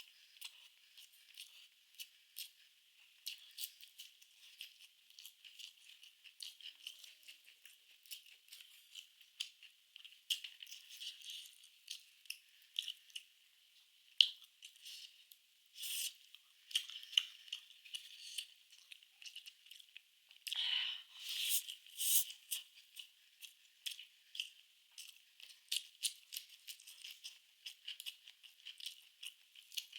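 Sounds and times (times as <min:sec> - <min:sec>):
person chewing: 0:00.0 - 0:13.3, 0:14.1 - 0:29.9.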